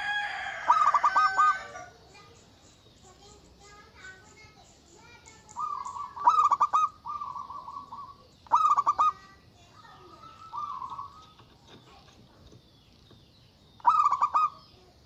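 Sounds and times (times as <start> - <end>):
dove cooing: 0.0 - 2.3, 3.0 - 12.5, 13.8 - 15.0.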